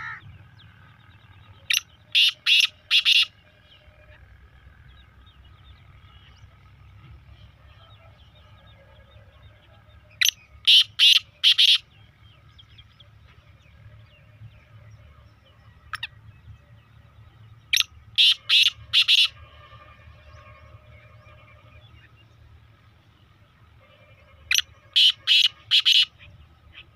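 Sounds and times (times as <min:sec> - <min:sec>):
bird harsh calls: 0:00.0 - 0:14.3, 0:17.6 - 0:22.4, 0:23.7 - 0:26.9
faint birds singing and chirping: 0:00.0 - 0:26.9.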